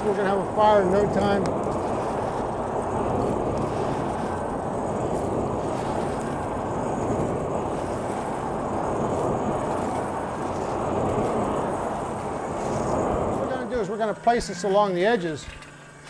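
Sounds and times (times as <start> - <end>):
forge fire rushing under air blast: 0.0 - 14.4.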